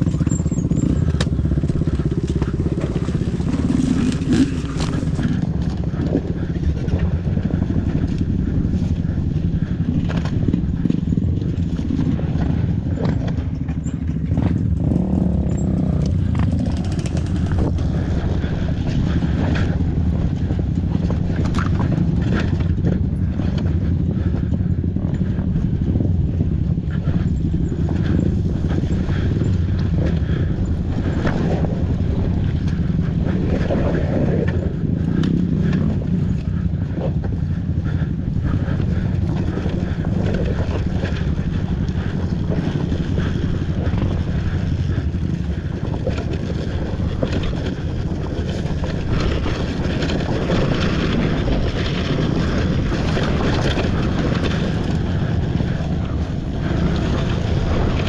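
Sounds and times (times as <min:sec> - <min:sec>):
dirt bike engine running: 0:00.0 - 0:58.0
wind noise on microphone: 0:00.0 - 0:58.0.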